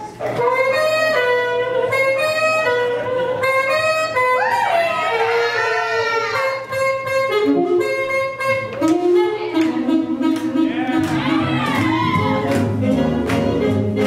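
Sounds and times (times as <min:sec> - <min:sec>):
saxophone melody: 0:00.0 - 0:14.0
swing jazz band playing: 0:00.0 - 0:14.0.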